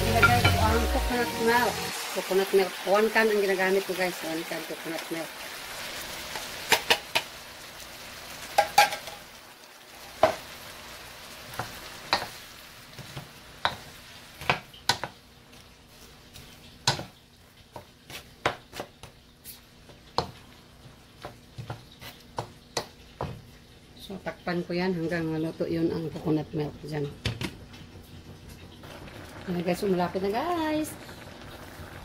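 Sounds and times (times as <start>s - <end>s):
light sizzle: 0.0s - 32.0s.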